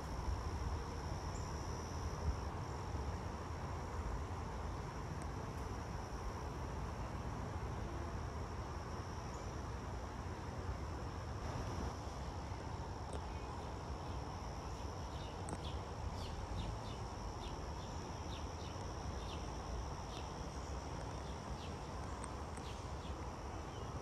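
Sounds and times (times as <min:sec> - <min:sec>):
insect trill: 0:00.0 - 0:07.3, 0:08.1 - 0:10.1, 0:11.0 - 0:24.0.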